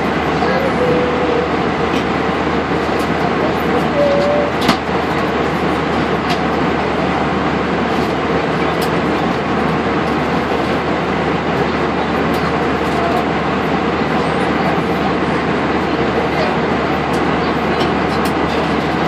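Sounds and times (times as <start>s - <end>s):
jet engine: 0.0s - 19.0s.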